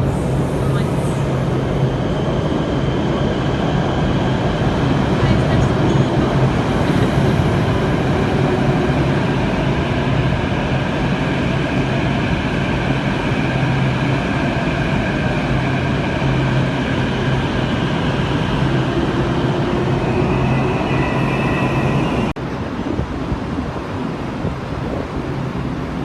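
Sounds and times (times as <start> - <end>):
metro train rumble: 0.0 - 26.0.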